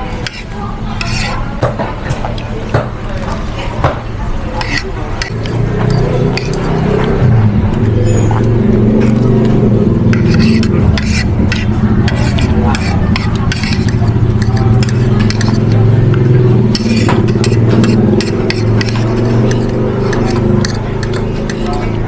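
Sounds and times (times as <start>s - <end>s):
spoon scraping a plate: 0.0s - 1.5s, 4.5s - 22.0s
steady low hum: 2.2s - 22.0s.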